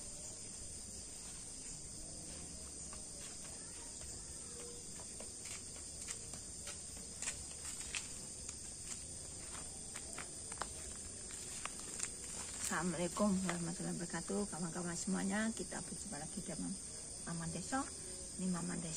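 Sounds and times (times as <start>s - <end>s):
insects chirring: 0.0s - 18.9s.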